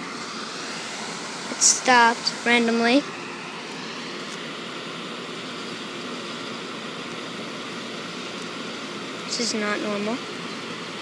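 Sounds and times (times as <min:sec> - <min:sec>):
train fans and air conditioning: 0:00.0 - 0:11.0.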